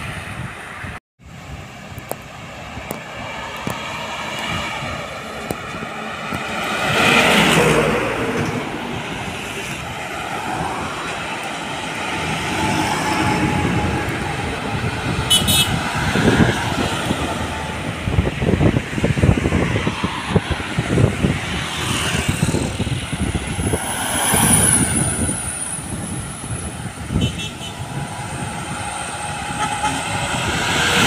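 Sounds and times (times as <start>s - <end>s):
cars passing: 0.0s - 31.0s
vehicle whine passing by: 0.0s - 31.0s.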